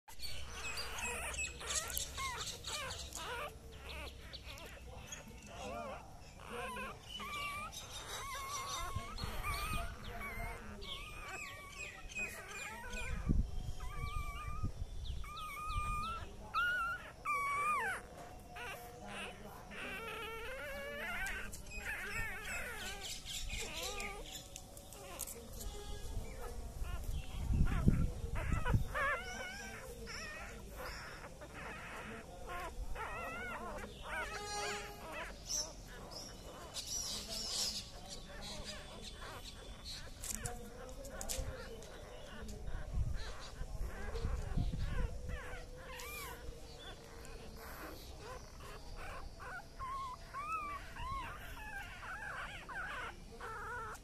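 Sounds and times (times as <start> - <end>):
puppy whimpering: 0.1 - 54.0.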